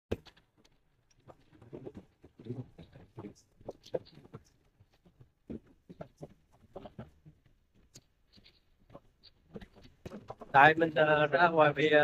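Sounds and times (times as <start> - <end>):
soft rustling: 0.2 - 11.1.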